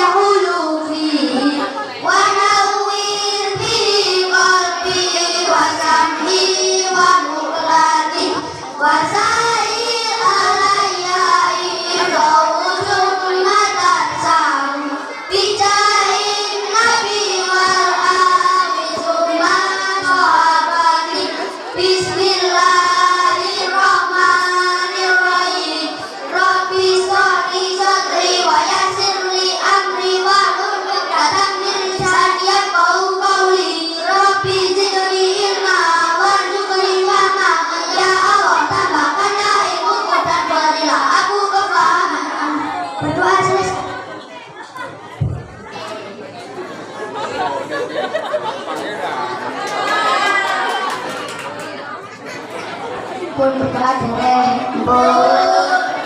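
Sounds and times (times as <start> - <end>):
children singing together: 0.0 - 56.0.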